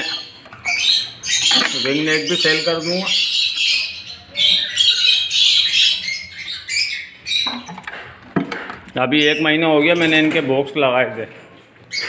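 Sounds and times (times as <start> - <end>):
parrots chattering and squawking: 0.0 - 10.4.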